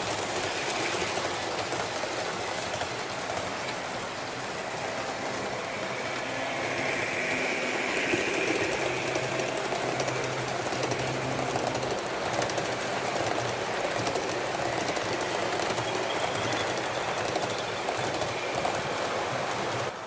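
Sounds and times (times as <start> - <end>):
model train rattling on track: 0.0 - 20.0
wheels clicking: 0.0 - 20.0.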